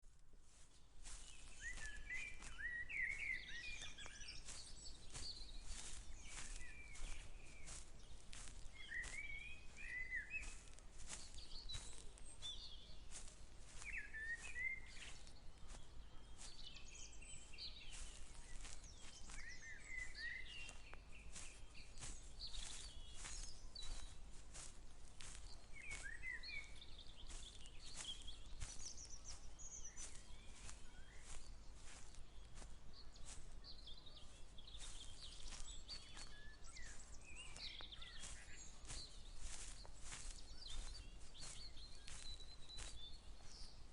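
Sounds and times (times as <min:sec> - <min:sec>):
footsteps walking: 0:00.0 - 0:43.9.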